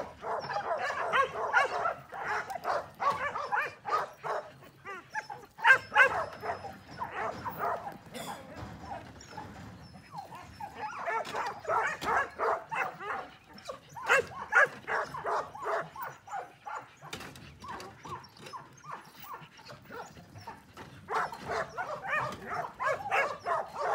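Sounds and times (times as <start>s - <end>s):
dog barking and yipping: 0.0s - 23.9s.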